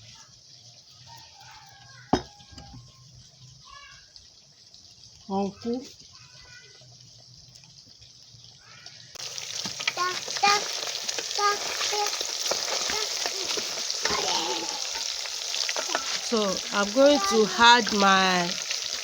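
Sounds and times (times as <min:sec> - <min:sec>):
hot oil sizzling in a frying pan: 0:00.0 - 0:19.0.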